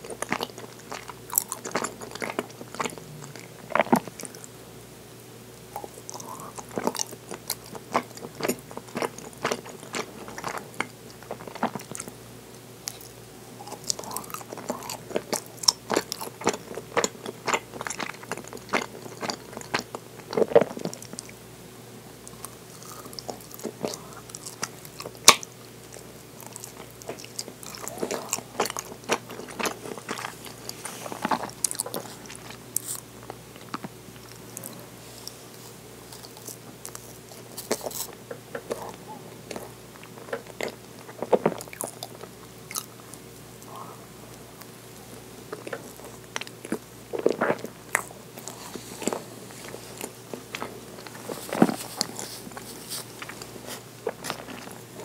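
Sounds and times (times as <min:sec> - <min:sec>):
biting and chewing mouth sounds: 0:00.0 - 0:04.6, 0:05.7 - 0:12.2, 0:12.8 - 0:21.4, 0:22.2 - 0:55.0.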